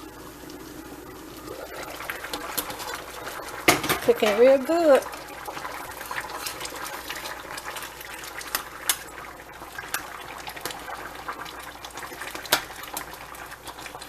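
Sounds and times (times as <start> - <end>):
soup boiling with pops: 0.0 - 14.0.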